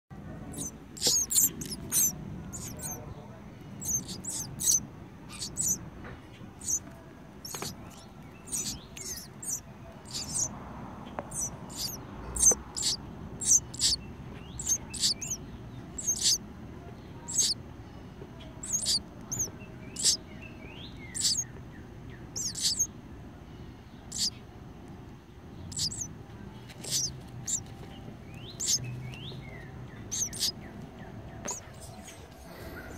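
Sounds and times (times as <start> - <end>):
nestlings begging chirps: 0.4 - 17.6, 18.3 - 32.2.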